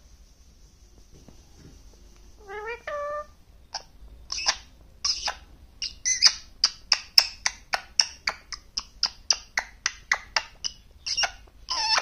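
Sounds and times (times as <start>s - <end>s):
parakeet chirping: 2.4s - 12.0s.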